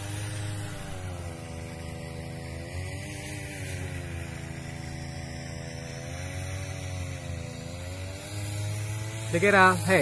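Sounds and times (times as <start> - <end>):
motor hum rising and falling: 0.0 - 10.0.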